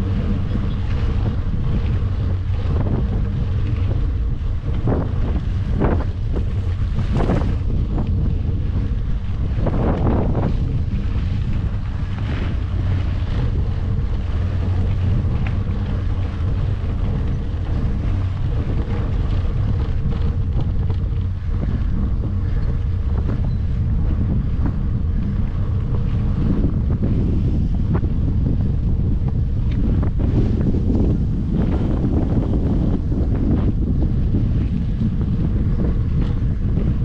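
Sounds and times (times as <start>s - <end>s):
bike tyres rolling on dirt: 0.0s - 37.0s
wind rushing over microphone: 0.0s - 37.0s.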